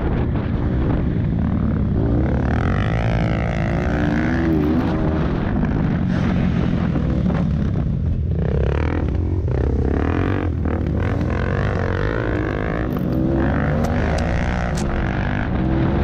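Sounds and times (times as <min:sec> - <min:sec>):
dirt bike engine revving: 0:00.8 - 0:16.0.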